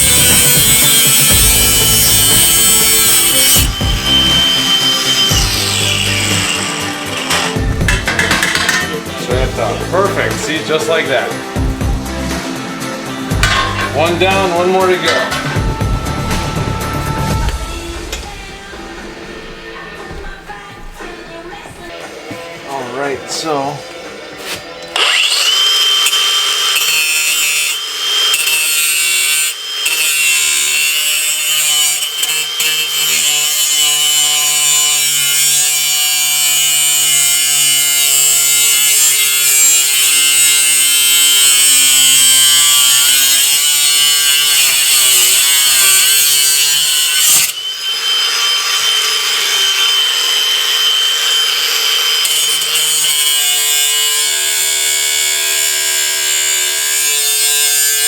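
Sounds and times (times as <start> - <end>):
angle grinder cutting metal: 0.0 - 21.4, 23.3 - 58.0.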